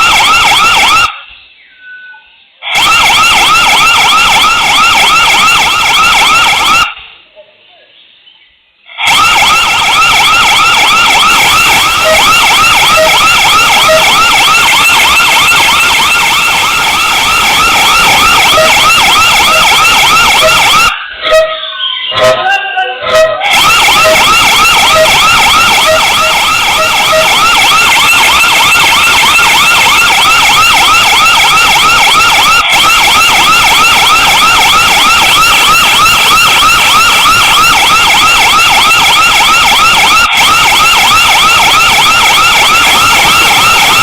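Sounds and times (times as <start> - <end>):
electronic siren yelping: 0.0 - 7.1, 9.0 - 44.0.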